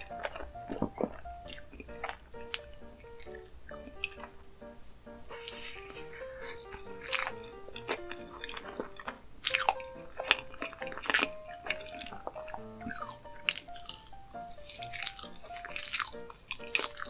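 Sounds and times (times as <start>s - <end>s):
light background music: 0.0s - 17.0s
wet chewing: 0.0s - 17.0s.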